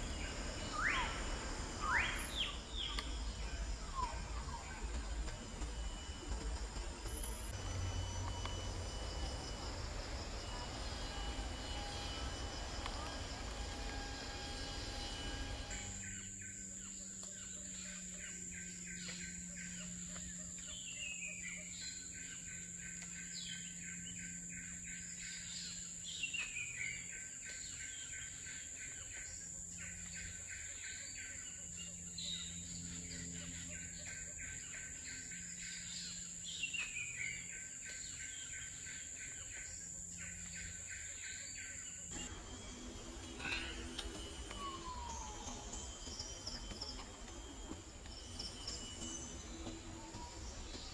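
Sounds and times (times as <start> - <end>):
fast pulsing chirr: 0.0 - 50.9
high-pitched insect whine: 0.0 - 50.9.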